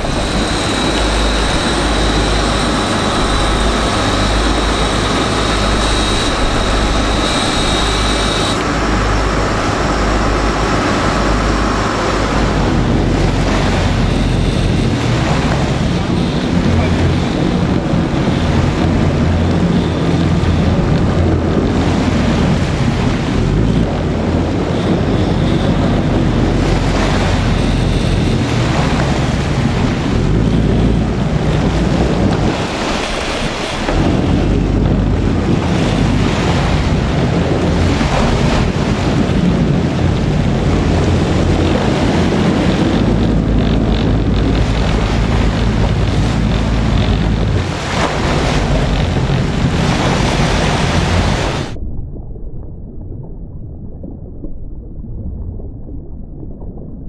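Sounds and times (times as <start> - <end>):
sea rushing: 0.0 - 51.9
wind buffeting microphone: 0.0 - 53.3.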